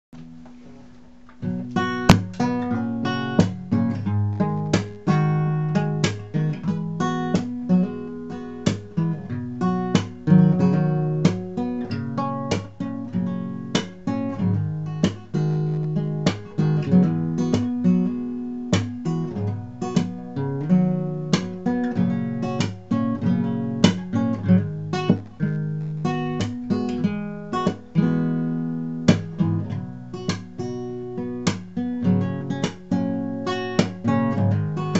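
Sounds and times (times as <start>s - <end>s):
fingerpicked acoustic guitar: 0.2s - 34.9s.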